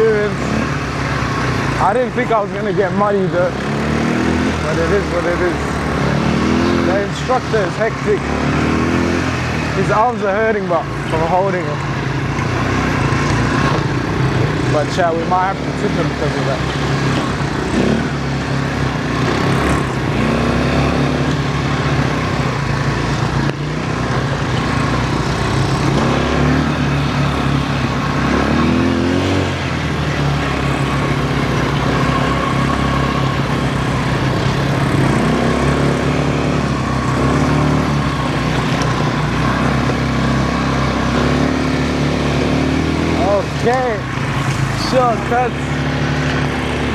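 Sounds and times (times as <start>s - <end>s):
quad bike engine revving: 0.0s - 46.9s.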